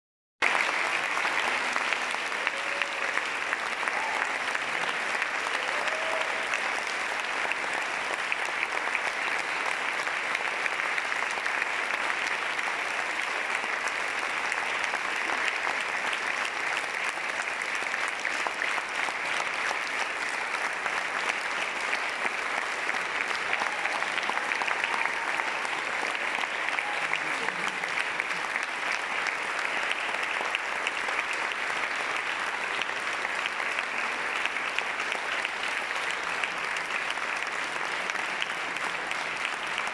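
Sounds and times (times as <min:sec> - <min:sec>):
audience applause: 0:00.4 - 0:39.9.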